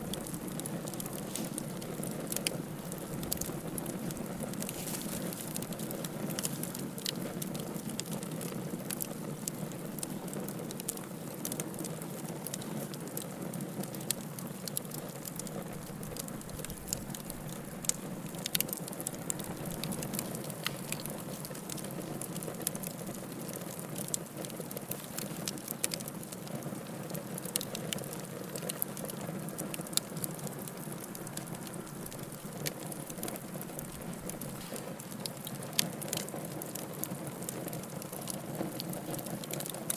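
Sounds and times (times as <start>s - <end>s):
fire crackles and pops: 0.0s - 39.9s
wood fire burning: 0.0s - 39.9s.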